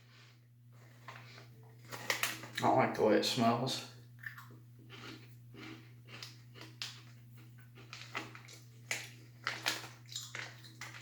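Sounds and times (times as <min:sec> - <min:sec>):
chewing dry cereal: 0:00.0 - 0:02.6, 0:04.2 - 0:11.0
low electrical hum: 0:00.0 - 0:11.0.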